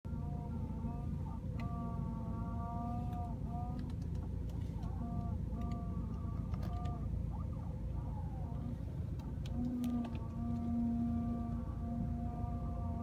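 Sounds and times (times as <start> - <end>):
road and engine rumble: 0.0 - 13.0
low drawn-out tone: 0.1 - 13.0.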